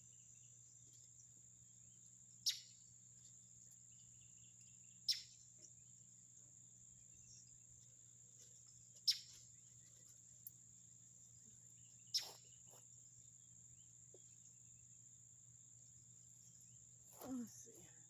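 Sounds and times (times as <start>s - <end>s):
crickets droning: 0.0s - 18.0s.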